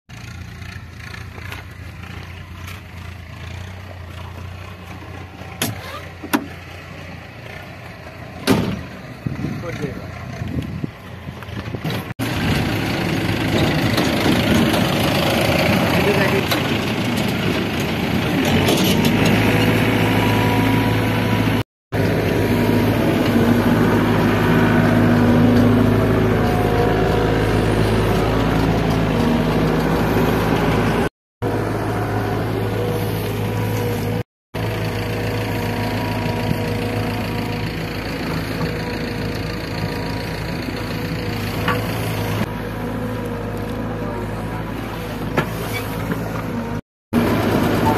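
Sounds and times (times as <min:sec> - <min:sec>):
excavator diesel engine: 0:00.1 - 0:47.9.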